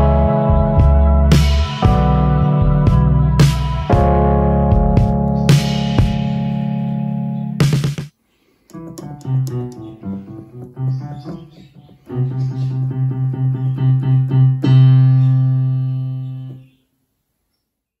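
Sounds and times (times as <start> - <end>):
keyboard notes played: 0.0 - 8.0, 8.7 - 16.7.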